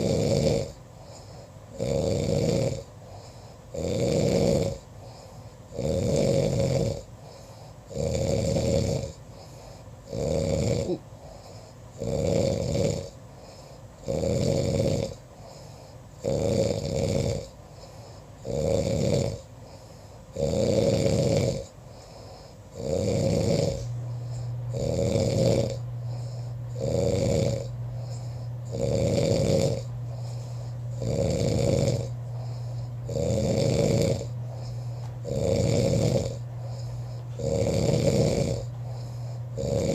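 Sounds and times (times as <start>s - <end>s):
man snoring loudly: 0.0s - 17.6s, 18.4s - 39.9s
steady low hum: 0.0s - 39.9s.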